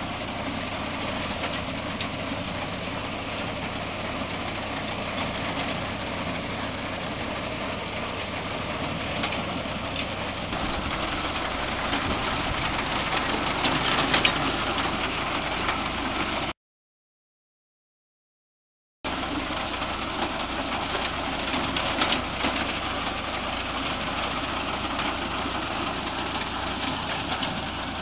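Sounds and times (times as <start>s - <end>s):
tractor engine running: 0.0s - 16.5s, 19.1s - 28.0s.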